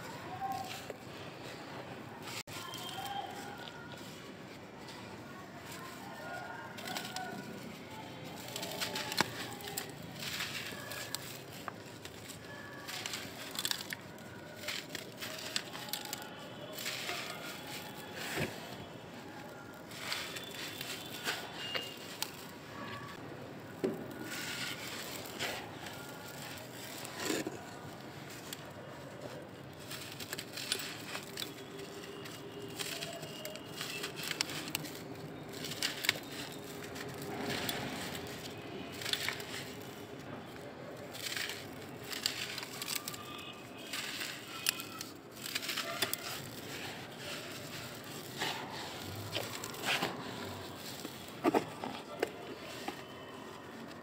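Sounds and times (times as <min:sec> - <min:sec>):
dry soil crunching in hands: 0:00.0 - 0:54.0.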